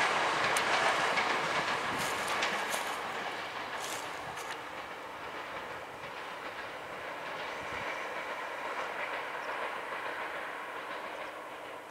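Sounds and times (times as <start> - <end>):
train wheels on rail: 0.0 - 11.9.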